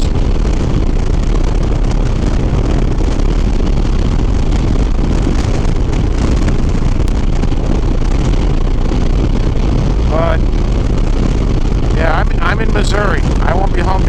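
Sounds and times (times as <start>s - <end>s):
motorcycle engine drone: 0.0s - 14.0s
wind rush over microphone: 0.0s - 14.0s.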